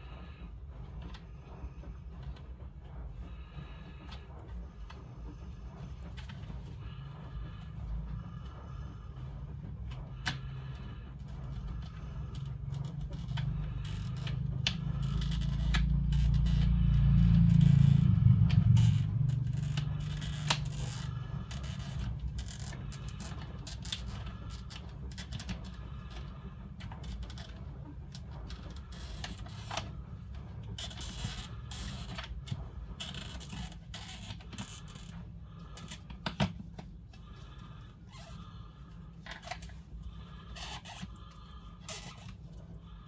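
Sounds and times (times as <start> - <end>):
low rumble: 0.0 - 43.0.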